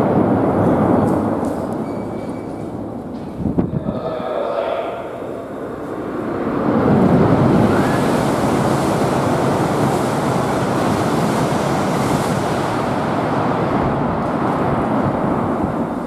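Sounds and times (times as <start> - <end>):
high-speed train rushing past: 0.0 - 16.0.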